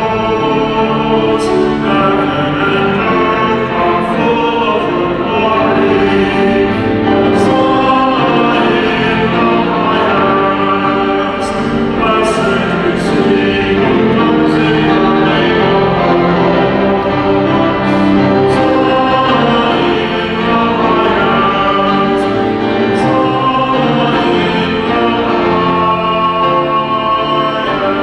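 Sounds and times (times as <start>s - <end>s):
sustained instrumental accompaniment: 0.0s - 28.0s
voices singing a hymn: 0.0s - 28.0s.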